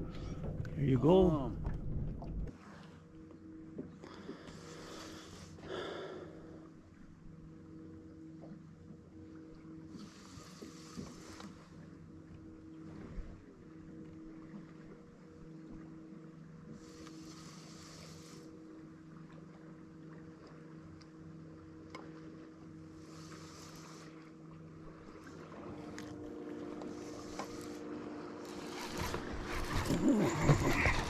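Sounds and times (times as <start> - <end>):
electric trolling motor humming: 0.0 - 31.0.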